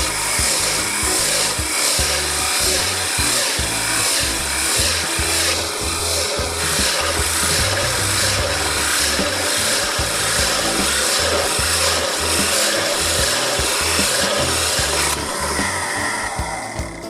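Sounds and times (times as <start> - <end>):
rubbing strokes on wood: 0.0 - 17.0.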